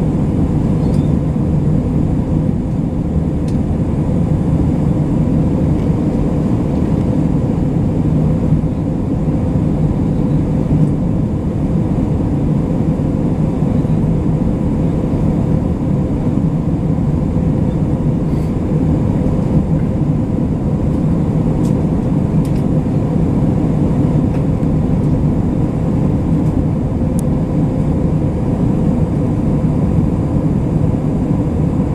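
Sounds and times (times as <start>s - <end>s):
faint steady hum: 0.0s - 31.9s
jet cabin drone: 0.0s - 31.9s.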